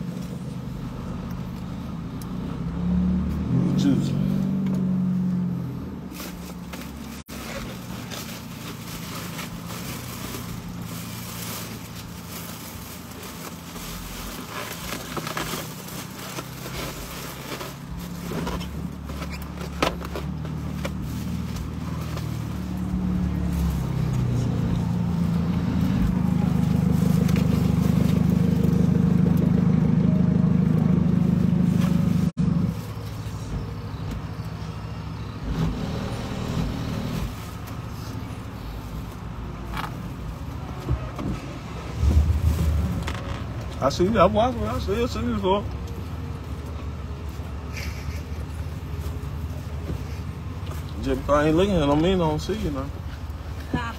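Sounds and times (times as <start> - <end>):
vehicle engine hum from cabin: 0.0 - 53.9.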